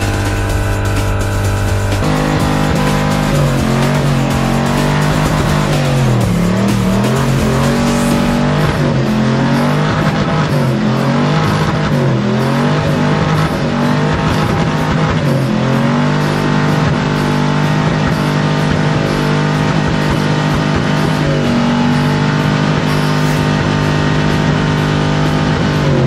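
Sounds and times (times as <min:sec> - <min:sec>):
truck engine revving hard: 0:00.0 - 0:26.0.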